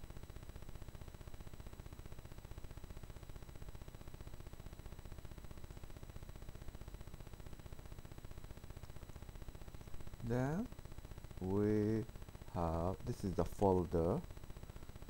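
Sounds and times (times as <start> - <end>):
faint steady hiss: 0.0 - 15.0
low hum: 0.0 - 15.0.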